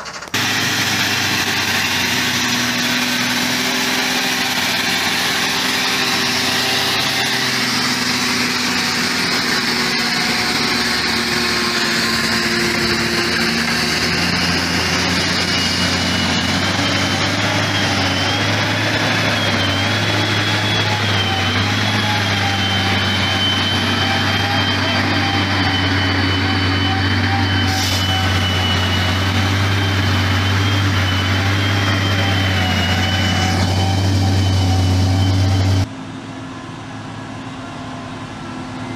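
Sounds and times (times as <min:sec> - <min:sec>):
logging machinery engine: 0:00.0 - 0:38.9.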